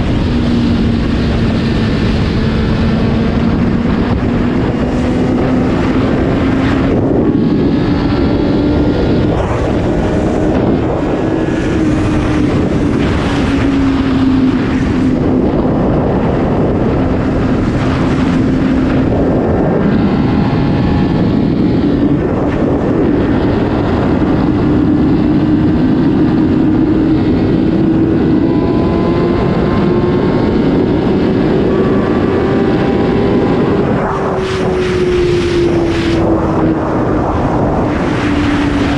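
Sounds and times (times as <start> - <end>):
motorcycle engine cruising: 0.0 - 38.9
wind buffeting microphone: 0.0 - 38.9.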